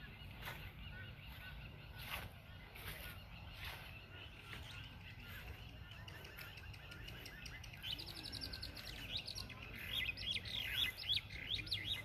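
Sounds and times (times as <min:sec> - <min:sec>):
wild birds chirping and calling: 0:00.0 - 0:12.0.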